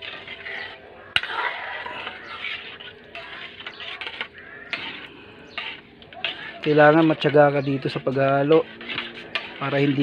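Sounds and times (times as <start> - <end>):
ladle scraping a metal pan: 0.0 - 10.0.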